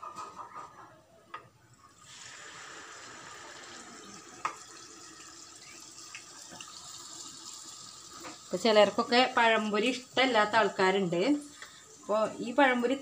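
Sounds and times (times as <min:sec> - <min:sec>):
hot oil sizzling: 0:01.9 - 0:13.0.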